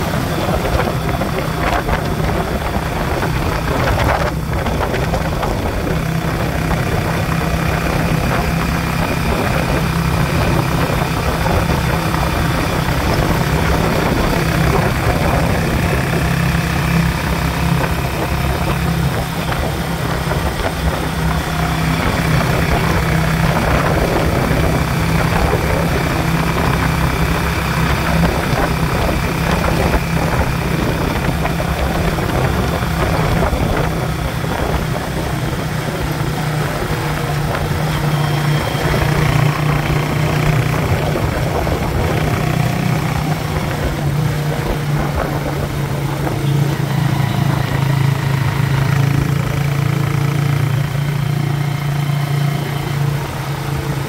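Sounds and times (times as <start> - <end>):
motorcycle engine running: 0.0 - 54.0
road and traffic noise: 0.0 - 54.0.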